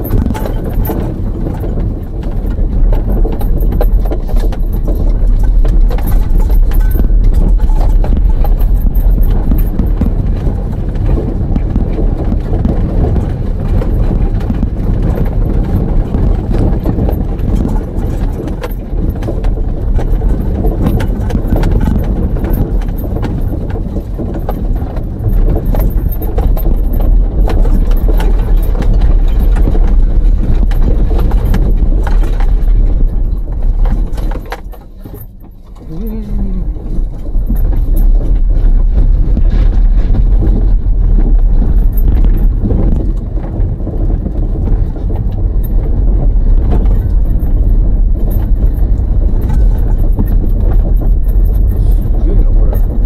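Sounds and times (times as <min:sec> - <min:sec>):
knocks and rattles from bumps: 0:00.0 - 0:53.0
vehicle rumbling on rough track: 0:00.0 - 0:53.0.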